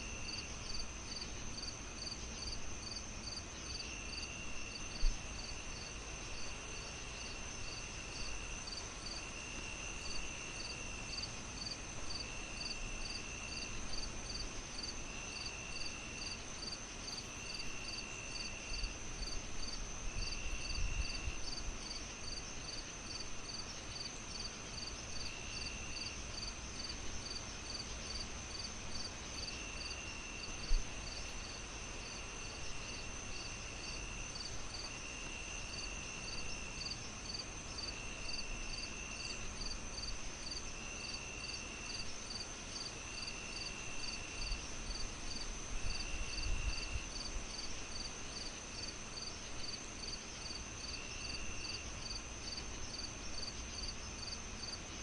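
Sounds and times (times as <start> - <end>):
insects chirping: 0.0 - 55.0
low insect trill: 0.0 - 55.0
high insect trill: 6.7 - 55.0.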